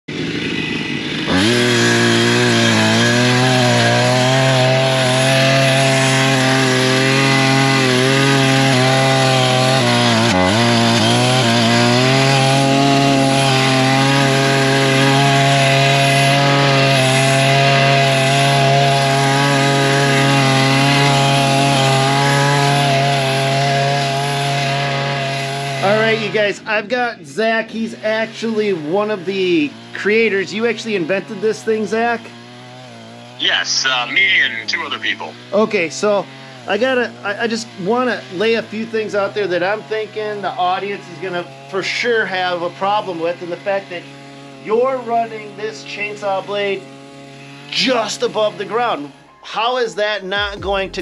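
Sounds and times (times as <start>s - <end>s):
brush cutter engine revving: 0.1s - 26.9s, 27.6s - 49.4s.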